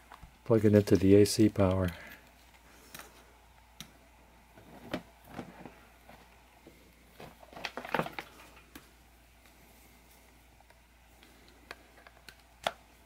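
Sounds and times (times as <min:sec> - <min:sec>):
soft handling clicks and rustles: 0:00.0 - 0:13.0.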